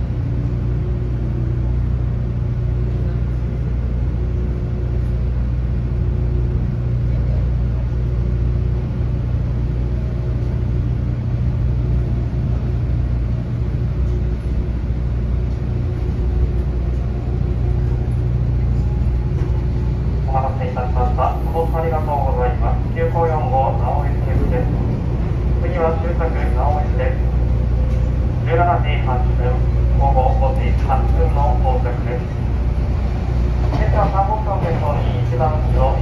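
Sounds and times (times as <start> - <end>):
train running gear rumble: 0.0 - 36.0.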